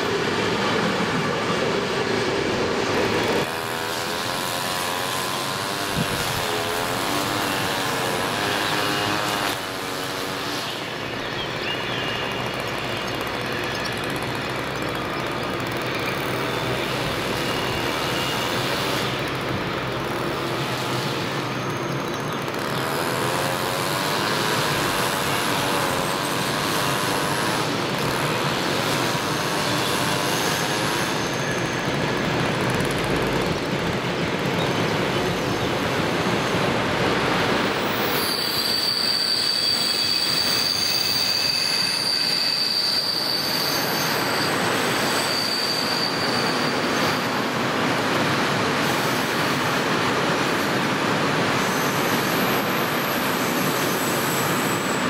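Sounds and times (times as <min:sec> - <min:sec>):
diesel locomotive engine drone: 0:00.0 - 0:55.0
high steady wheel squeal: 0:00.0 - 0:55.0.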